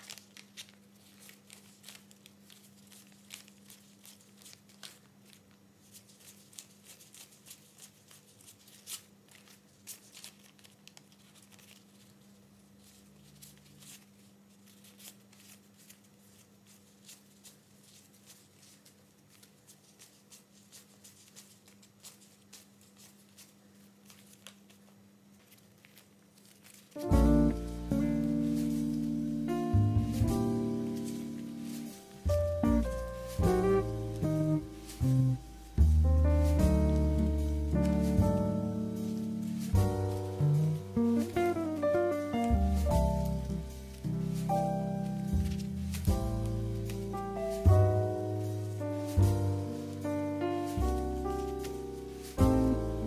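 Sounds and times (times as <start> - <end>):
paper banknotes rustling: 0.0 - 53.0.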